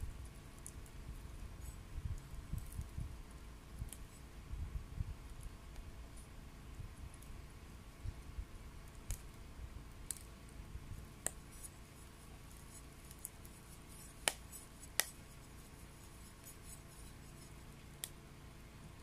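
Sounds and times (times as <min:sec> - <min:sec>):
stove low rumble: 0:00.0 - 0:19.0.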